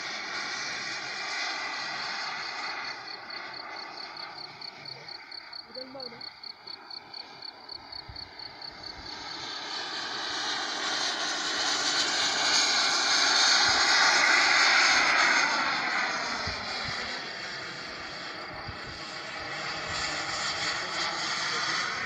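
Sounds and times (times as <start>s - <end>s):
model jet turbine passing: 0.0s - 22.0s.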